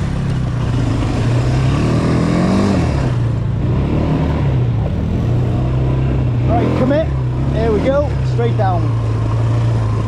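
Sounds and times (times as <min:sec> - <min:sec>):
quad bike engine revving: 0:00.0 - 0:10.0.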